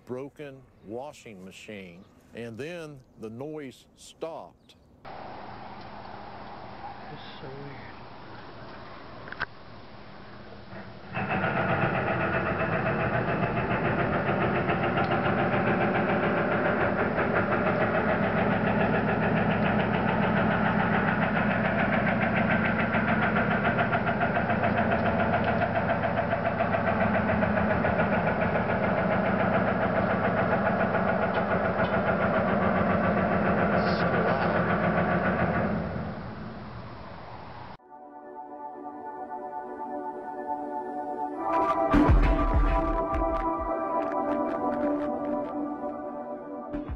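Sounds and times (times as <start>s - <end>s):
loud droning with rattling pulse: 4.9s - 37.8s, 39.0s - 46.9s.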